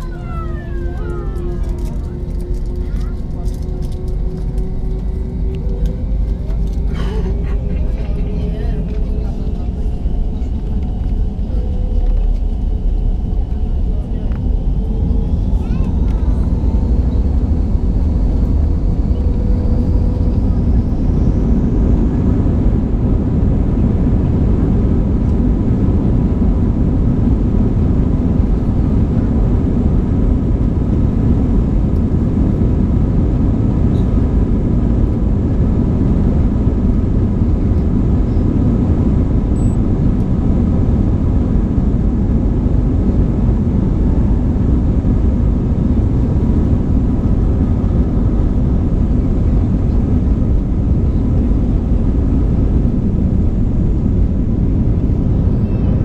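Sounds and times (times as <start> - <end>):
jet engines low rumble: 0.0 - 56.0.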